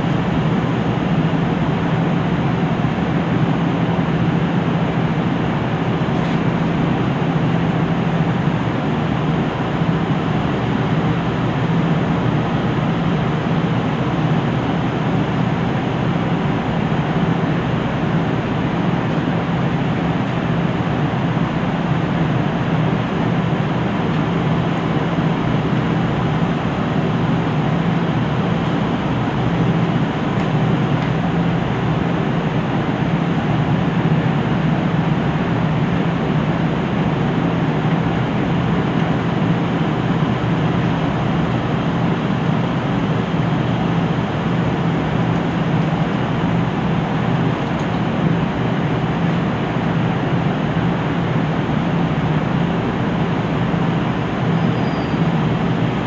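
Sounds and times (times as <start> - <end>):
diesel train engine idling: 0.0 - 56.0.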